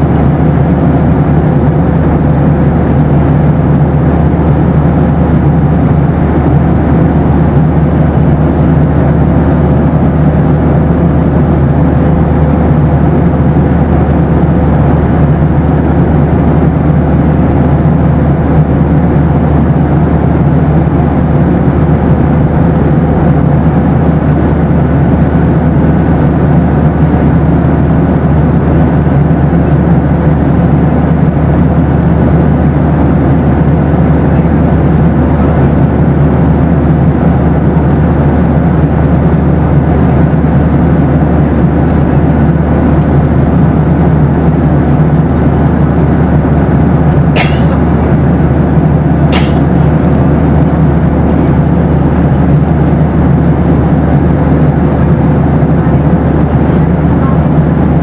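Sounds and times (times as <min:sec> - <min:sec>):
aircraft cabin engine rumble: 0:00.0 - 0:58.0
faint steady hum: 0:00.0 - 0:58.0.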